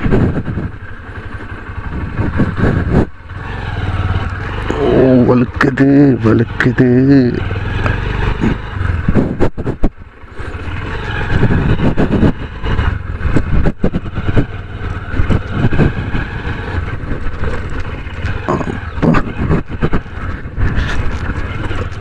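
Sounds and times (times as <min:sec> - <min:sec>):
motorcycle engine rumble: 0:00.0 - 0:22.0.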